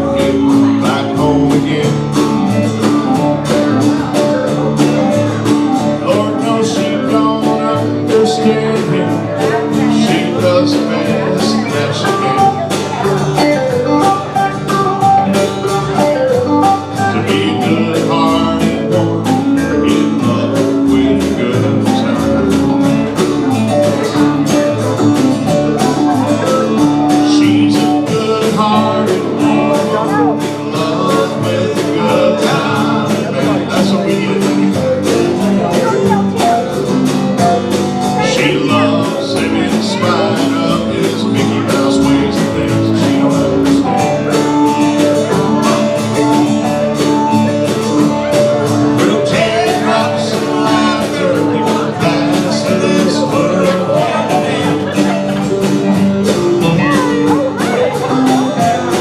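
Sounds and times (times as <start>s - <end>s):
bass guitar: 0.0s - 59.0s
drums keeping a steady beat: 0.0s - 59.0s
electric guitars: 0.0s - 59.0s
person singing: 0.0s - 59.0s.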